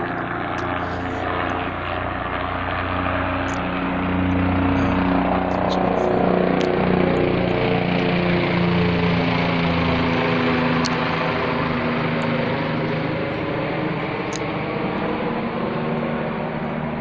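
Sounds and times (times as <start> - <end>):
aircraft droning overhead: 0.0 - 17.0.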